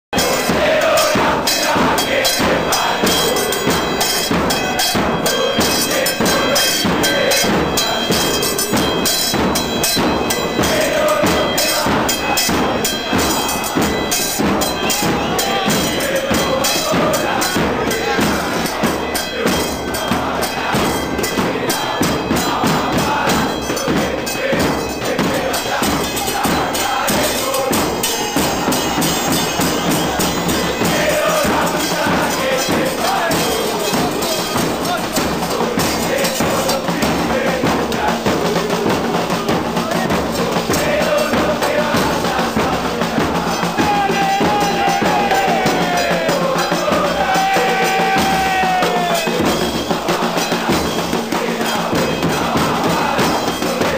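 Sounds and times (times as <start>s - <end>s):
drums and percussion beat: 0.0s - 53.9s
crowd chanting: 0.1s - 53.9s.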